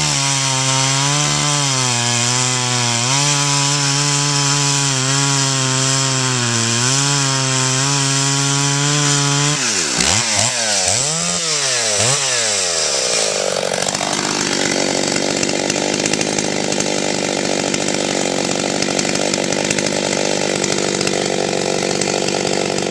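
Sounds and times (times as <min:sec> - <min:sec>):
chainsaw revving: 0:00.0 - 0:22.9.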